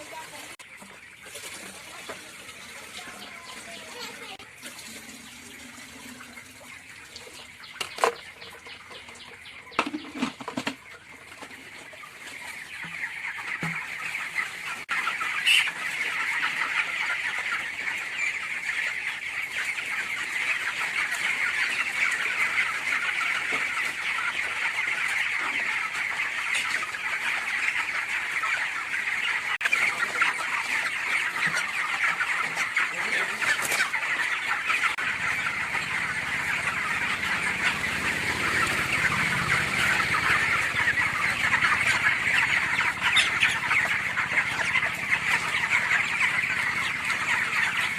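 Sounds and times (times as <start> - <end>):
chickens cheeping and clucking: 0.0 - 47.9.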